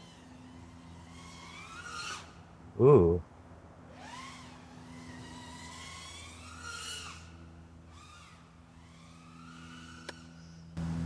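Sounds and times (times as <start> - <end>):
drone motors whining: 0.0 - 3.2, 3.9 - 11.0.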